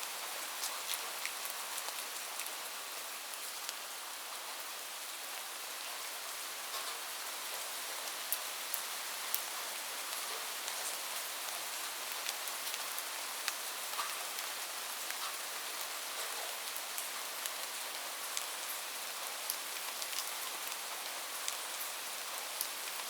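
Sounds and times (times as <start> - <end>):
steady rain hissing: 0.0 - 23.0.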